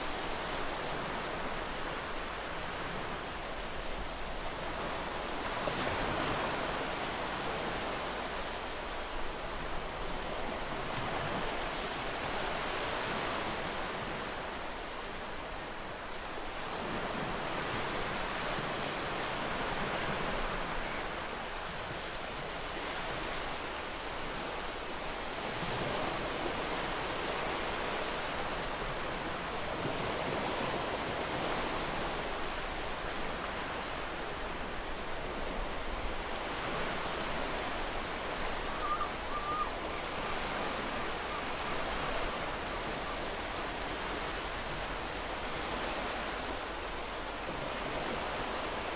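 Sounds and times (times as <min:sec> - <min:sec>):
ocean surf washing onto beach: 0:00.0 - 0:48.9.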